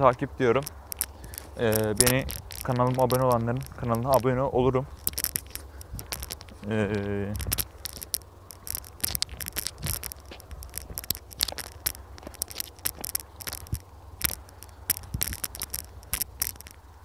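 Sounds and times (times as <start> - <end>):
footsteps on stony ground: 0.0 - 16.8
metal chain leash rattling: 0.5 - 16.8.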